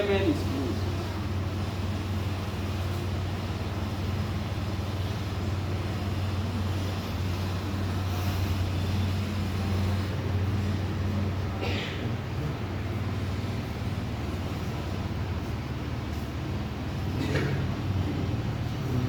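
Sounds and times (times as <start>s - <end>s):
rushing background noise: 0.0s - 19.0s.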